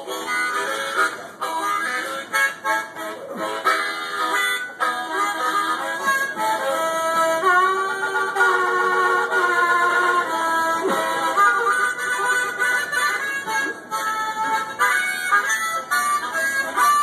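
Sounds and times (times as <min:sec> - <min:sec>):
blues harmonica melody: 0:00.0 - 0:17.0.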